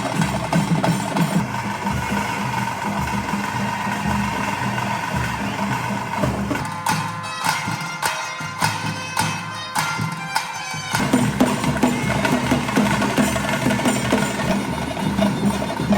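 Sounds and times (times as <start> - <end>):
reedy wind instrument: 0.0 - 15.9
sharp drum strokes: 0.0 - 15.9.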